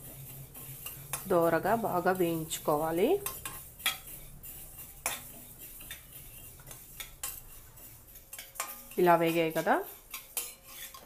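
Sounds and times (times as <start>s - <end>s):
metal spatula scraping a pan: 0.0s - 11.0s.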